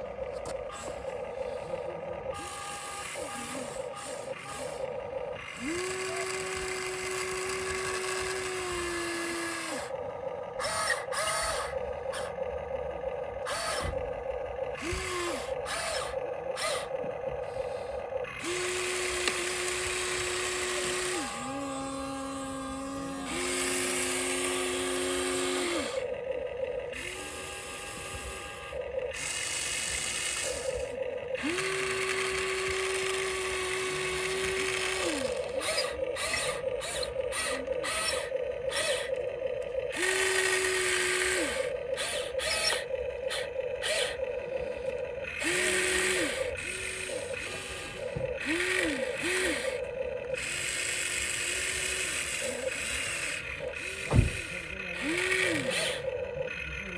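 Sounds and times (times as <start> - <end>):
gears rattling: 0.0 - 56.9
small electric motors whining: 0.0 - 56.9.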